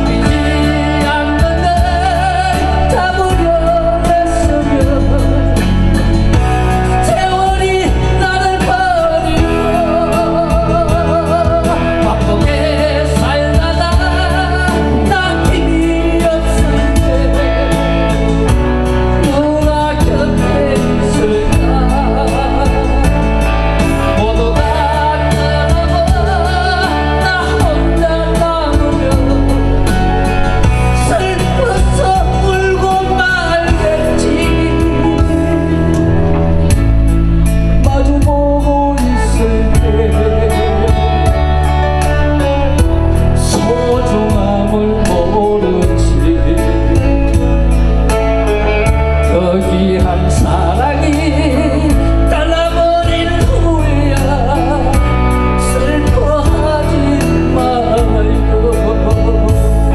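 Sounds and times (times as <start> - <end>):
backing music with steady beat: 0.0 - 59.9
person singing with vibrato: 0.0 - 59.9.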